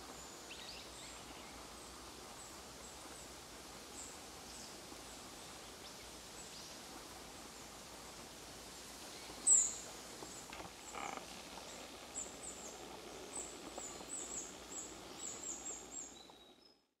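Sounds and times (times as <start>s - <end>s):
faint woodland hiss: 0.0s - 16.9s.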